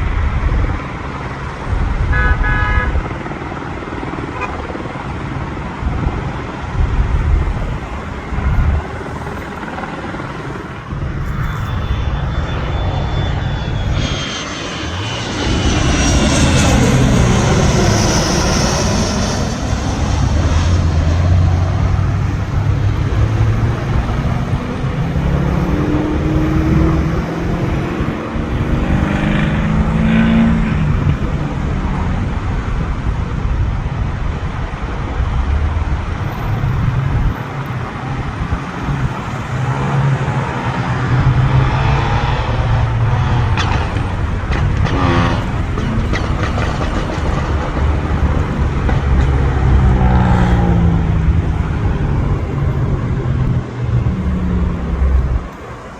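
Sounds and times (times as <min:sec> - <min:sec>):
aircraft engine rumble overhead: 0:00.0 - 0:55.9.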